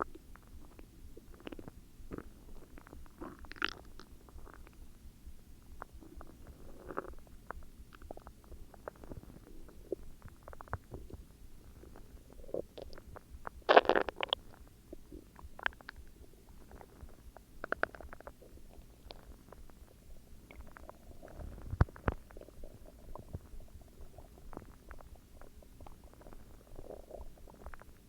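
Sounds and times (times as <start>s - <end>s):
stomach growling: 0.0s - 4.8s, 5.7s - 28.0s.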